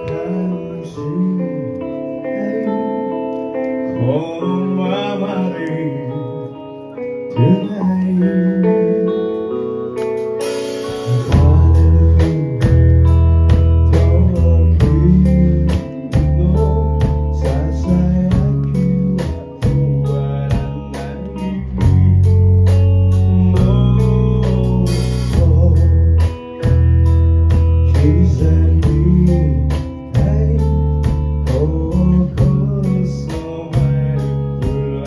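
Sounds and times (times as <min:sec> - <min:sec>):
rock band playing a ballad: 0:00.0 - 0:35.0.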